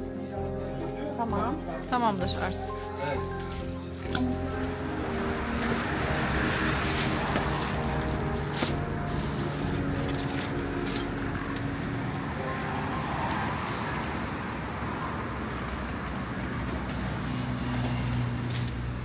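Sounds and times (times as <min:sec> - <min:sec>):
traffic and car engines: 0:00.0 - 0:19.0.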